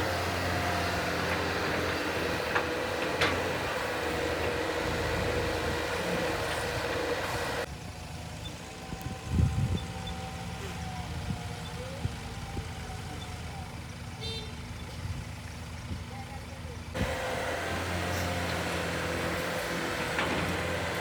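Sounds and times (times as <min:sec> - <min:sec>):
heavy diesel machinery running: 0:00.0 - 0:21.0.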